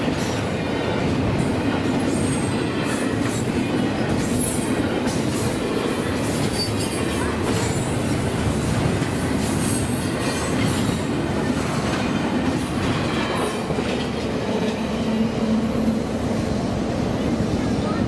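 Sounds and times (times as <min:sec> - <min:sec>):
train wheels clattering over rails: 0:00.0 - 0:18.0.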